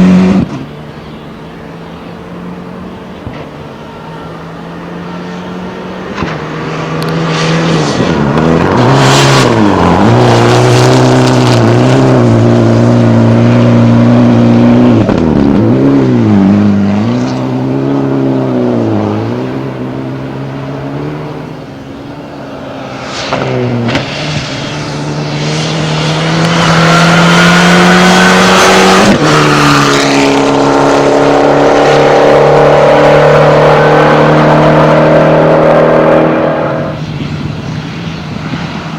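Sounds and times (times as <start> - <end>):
car engine revving hard: 0.0 - 0.7, 4.6 - 37.6.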